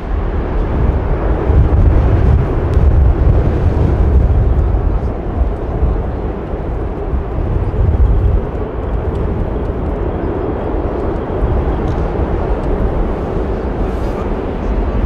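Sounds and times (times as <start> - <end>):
distant jet engines rumbling: 0.0 - 15.0.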